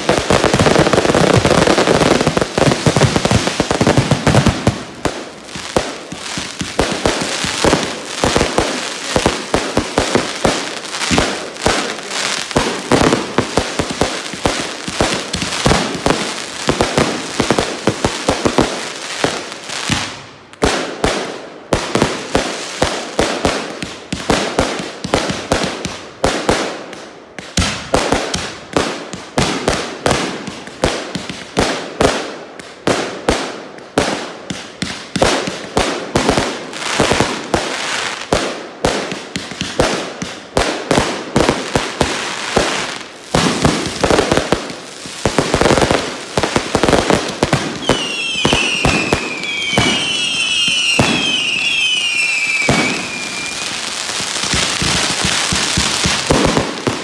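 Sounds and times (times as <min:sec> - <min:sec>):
fireworks bangs: 0:00.0 - 0:57.0
fireworks crackle and hiss: 0:00.0 - 0:57.0
whistling fireworks: 0:00.0 - 0:57.0.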